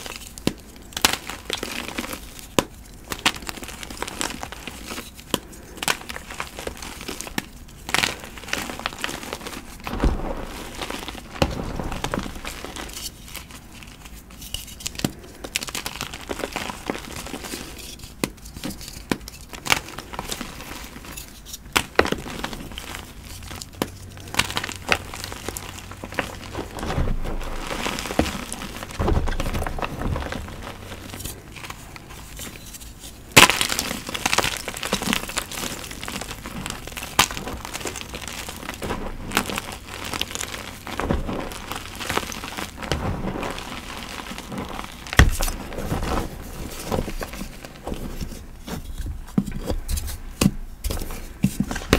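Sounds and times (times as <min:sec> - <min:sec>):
chalk blocks crunching and snapping: 0:00.0 - 0:51.9.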